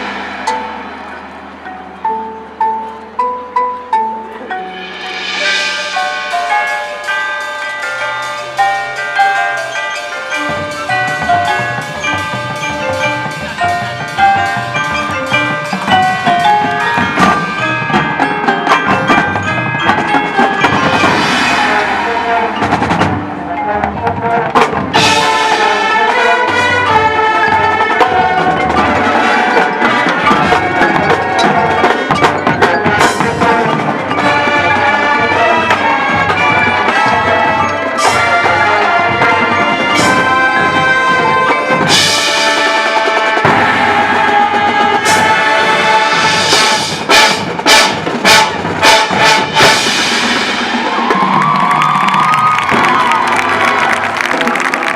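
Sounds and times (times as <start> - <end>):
mallet percussion: 0.0 - 54.9
marching band playing: 0.0 - 54.9.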